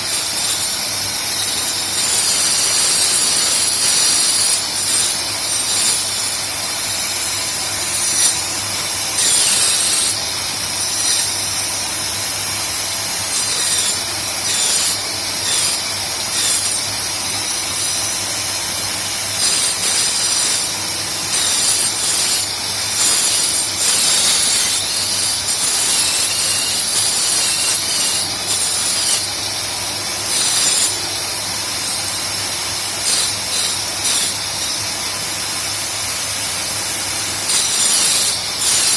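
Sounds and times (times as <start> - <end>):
cutter grinding into wood: 0.0 - 38.9.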